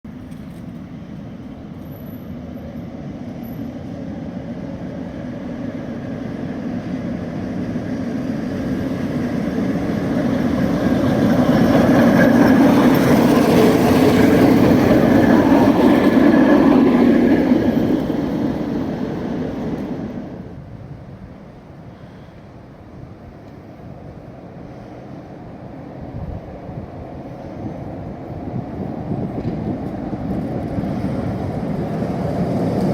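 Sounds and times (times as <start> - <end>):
tram wheels rumbling on rails: 0.1 - 32.9.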